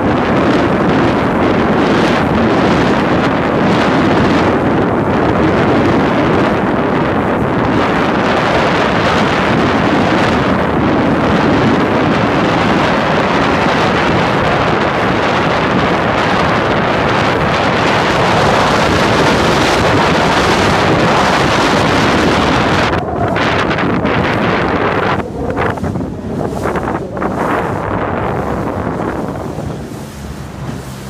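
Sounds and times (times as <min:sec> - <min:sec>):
water rushing along hull: 0:00.0 - 0:31.0
wind buffeting microphone: 0:00.0 - 0:31.0.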